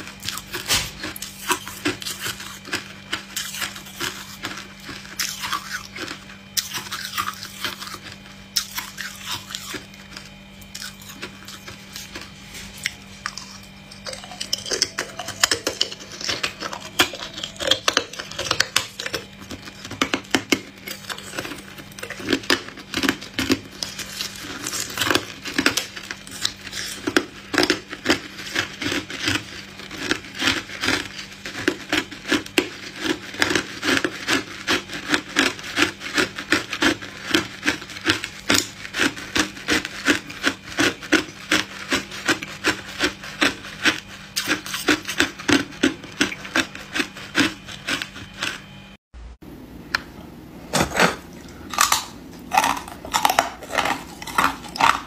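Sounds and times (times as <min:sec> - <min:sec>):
ice being bitten and chewed: 0:00.0 - 0:48.9, 0:50.8 - 0:55.0.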